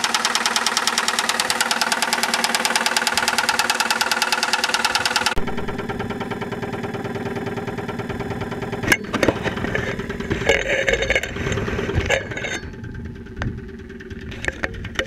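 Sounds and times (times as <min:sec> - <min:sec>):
car engine idling with knocking: 0:00.0 - 0:15.0.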